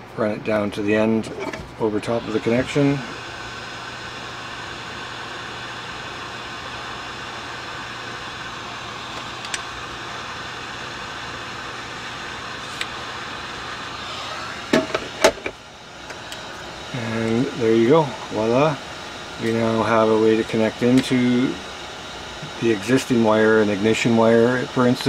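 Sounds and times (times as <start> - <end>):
hot air gun blowing: 1.3 - 25.0.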